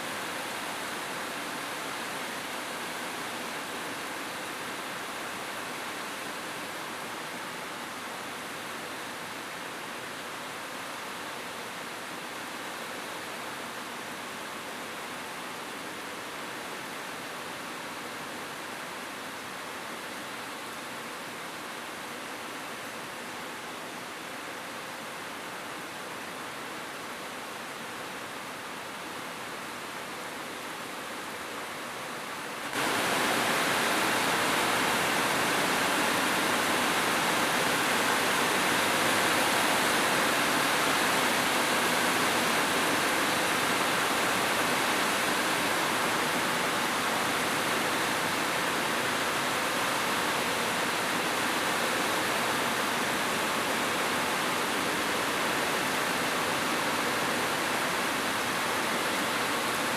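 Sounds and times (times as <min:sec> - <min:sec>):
rain falling on a roof: 0:00.0 - 0:59.9.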